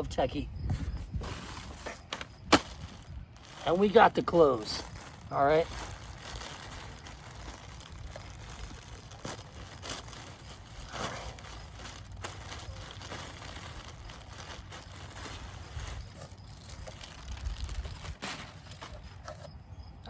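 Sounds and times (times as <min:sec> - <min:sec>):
cloth and packaging rustling: 0:00.7 - 0:19.6.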